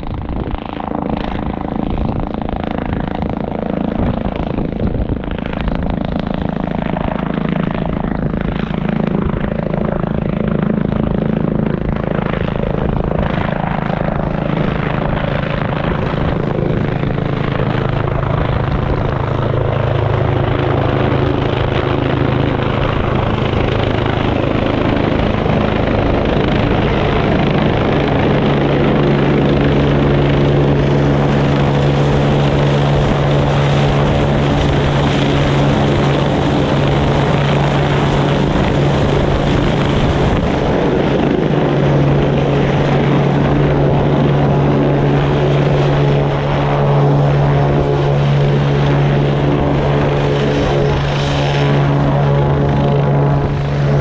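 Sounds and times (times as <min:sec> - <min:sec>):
helicopter rotor and turbine: 0:00.0 - 0:54.0
high turbine whine: 0:00.0 - 0:54.0.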